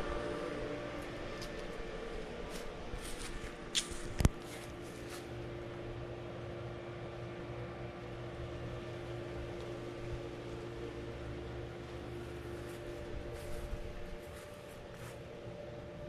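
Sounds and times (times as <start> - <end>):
machine hum with constant tones: 0.0 - 16.0.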